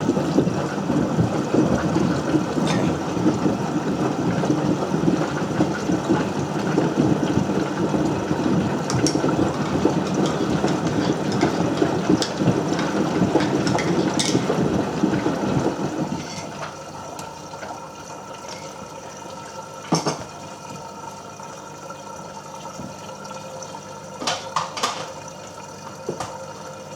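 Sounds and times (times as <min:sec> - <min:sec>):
washing machine rumbling and clattering: 0:00.0 - 0:26.9.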